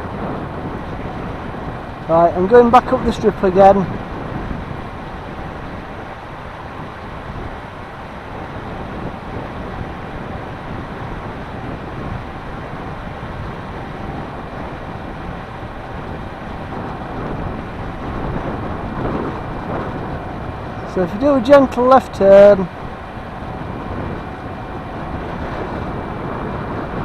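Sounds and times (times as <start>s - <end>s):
wind rumbling on microphone: 0.0s - 27.0s.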